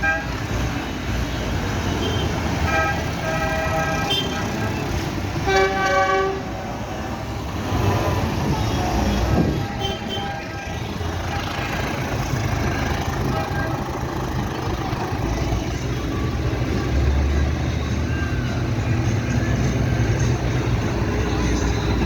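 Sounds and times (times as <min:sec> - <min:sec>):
tractor engines rumbling: 0:00.0 - 0:22.0.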